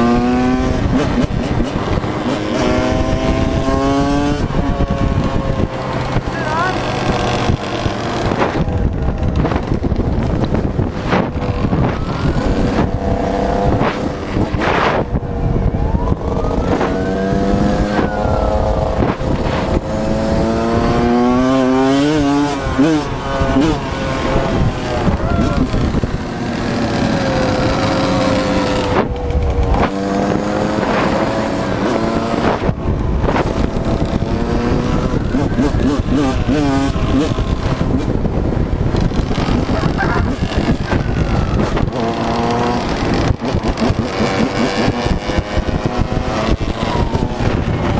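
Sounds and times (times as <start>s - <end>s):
dirt bike engine revving: 0.0s - 47.9s
wind buffeting microphone: 0.0s - 47.9s.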